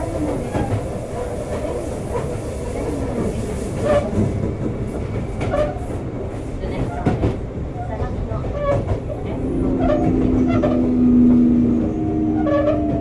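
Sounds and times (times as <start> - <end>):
train car rumble: 0.0 - 13.0.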